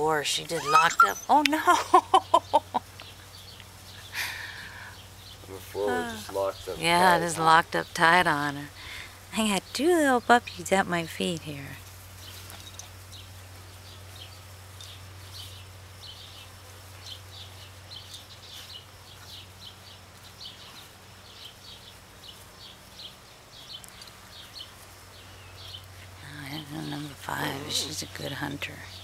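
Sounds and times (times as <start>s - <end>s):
small bird chirping: 0.5s - 6.8s, 11.3s - 29.0s.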